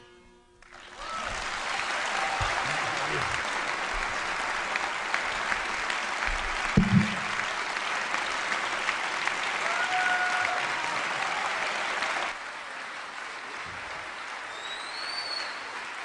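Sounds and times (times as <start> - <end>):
audience applause: 0.6 - 16.0.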